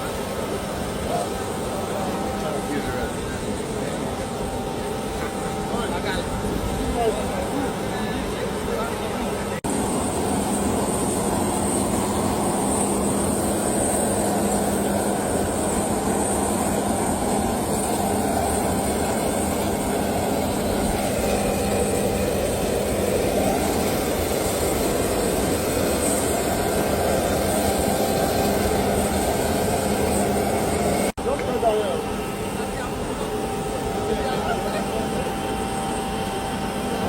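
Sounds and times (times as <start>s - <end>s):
jet engines droning: 0.0s - 37.0s.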